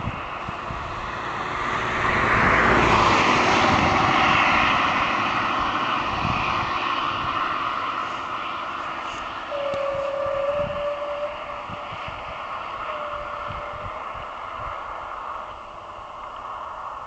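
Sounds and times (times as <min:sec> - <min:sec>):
diesel train passing: 0:00.0 - 0:17.0.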